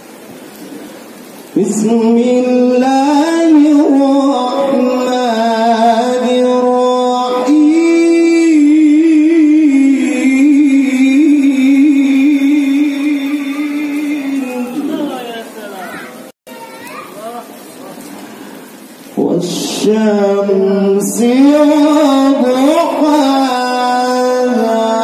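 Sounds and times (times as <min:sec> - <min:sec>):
man reciting melodically through microphone: 0:01.5 - 0:16.1, 0:19.0 - 0:25.0.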